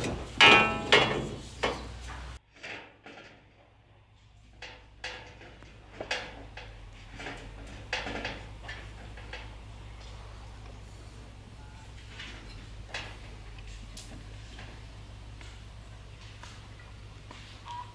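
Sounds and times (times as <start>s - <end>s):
knocks and clatters of materials: 0.0s - 10.9s, 11.6s - 17.9s.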